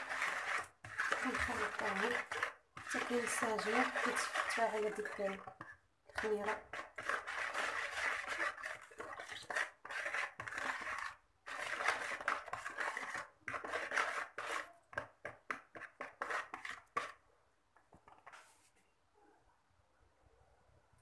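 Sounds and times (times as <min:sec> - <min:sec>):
metal spoon scraping plastic bowl: 0:00.0 - 0:17.2.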